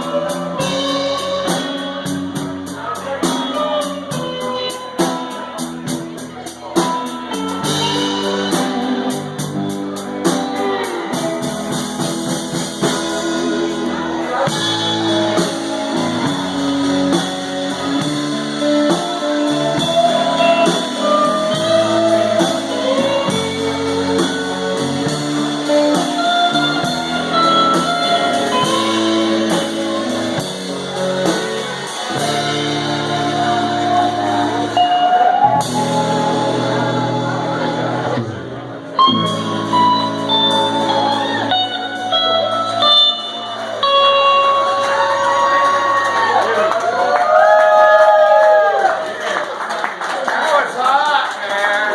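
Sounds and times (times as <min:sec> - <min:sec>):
electric slide guitar: 0:00.0 - 0:48.8
drum kit: 0:00.0 - 0:49.4
bass: 0:00.0 - 0:51.9.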